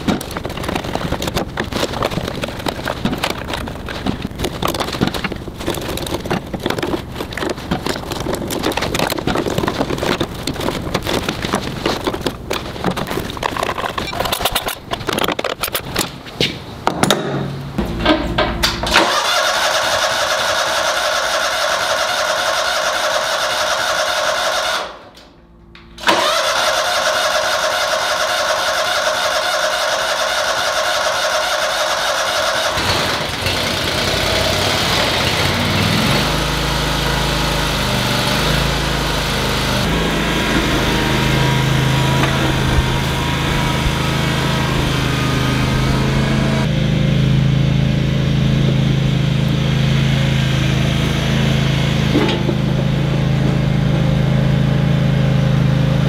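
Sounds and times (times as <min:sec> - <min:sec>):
tractor engine cranking and running: 0:00.0 - 0:56.0.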